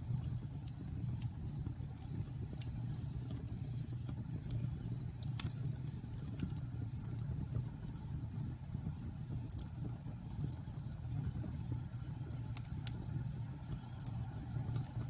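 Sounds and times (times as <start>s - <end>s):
bonfire flames rumbling: 0.0s - 15.0s
burning wood crackling and popping: 0.0s - 15.0s.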